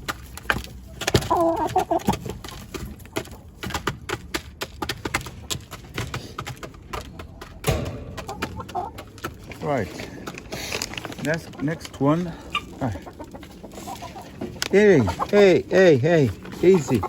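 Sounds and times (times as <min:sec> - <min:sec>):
chickens pecking: 0:00.0 - 0:17.0.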